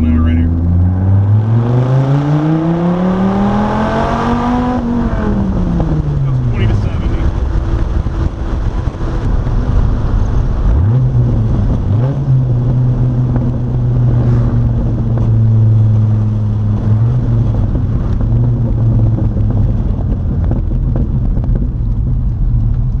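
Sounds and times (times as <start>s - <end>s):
sports car engine revving: 0.0s - 21.7s.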